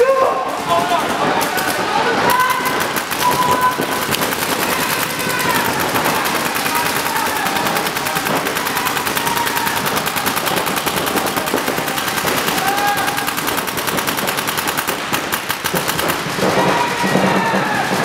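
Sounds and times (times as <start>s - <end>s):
paintball markers firing: 0.6s - 18.0s.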